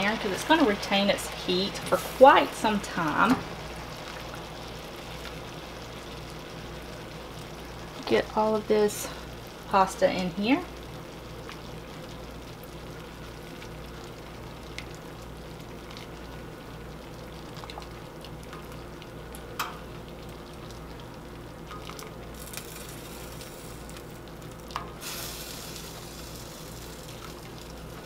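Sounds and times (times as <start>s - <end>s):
pasta sizzling in a skillet: 0.0s - 28.0s.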